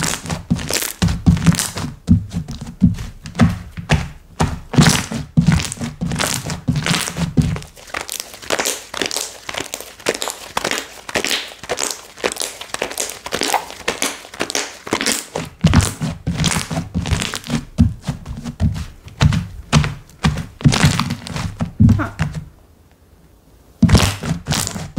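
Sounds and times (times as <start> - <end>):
dull thuds of slime: 0.0 - 11.9, 12.8 - 22.5, 23.8 - 24.9.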